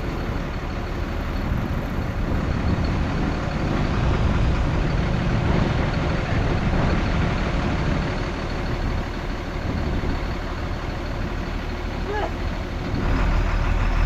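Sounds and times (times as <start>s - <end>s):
diesel machinery engine drone: 0.0s - 14.0s.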